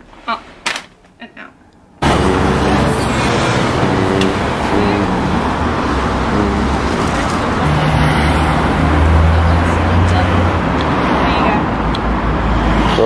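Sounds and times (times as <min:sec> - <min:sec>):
low engine note: 0:02.0 - 0:13.0
motor vehicle engines running: 0:02.0 - 0:13.0.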